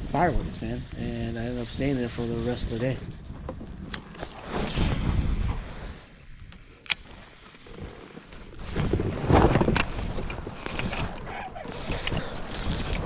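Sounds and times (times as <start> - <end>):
water around kayak: 0.0 - 13.0
wind: 0.0 - 13.0.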